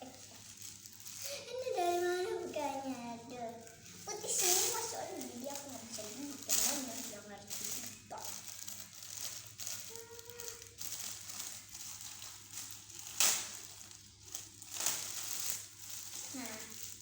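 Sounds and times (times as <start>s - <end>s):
packaging crinkling by hand: 0.0s - 17.0s.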